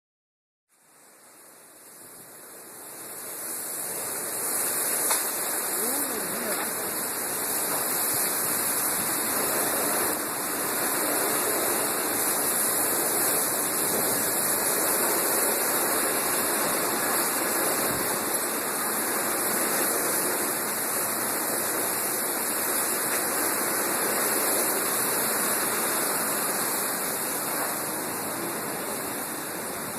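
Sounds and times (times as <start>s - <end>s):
heavy rain pouring: 0.8s - 29.9s.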